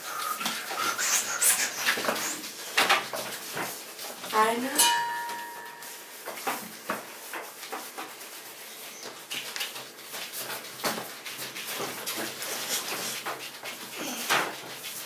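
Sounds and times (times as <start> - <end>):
hands rolling dough: 0.0 - 15.0.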